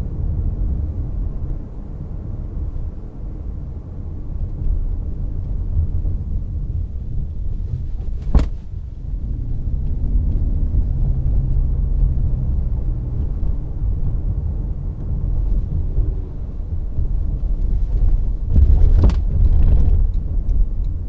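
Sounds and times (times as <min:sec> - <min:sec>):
road noise inside car: 0:00.0 - 0:21.0.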